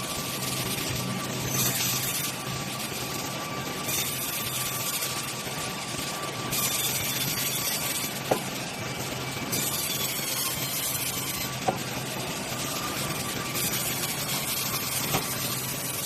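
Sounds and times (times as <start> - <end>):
sawmill machinery running: 0.0 - 16.0.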